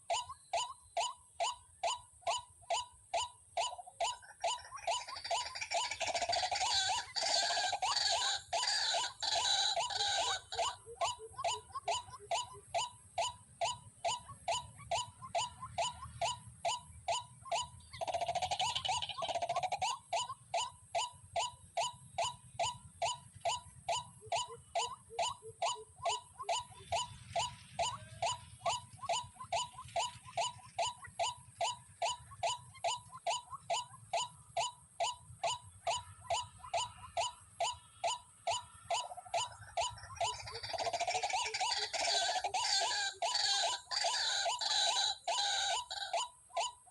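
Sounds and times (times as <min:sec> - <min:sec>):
waterhen calling: 0:03.6 - 0:21.5, 0:22.2 - 0:34.8, 0:35.4 - 0:46.9.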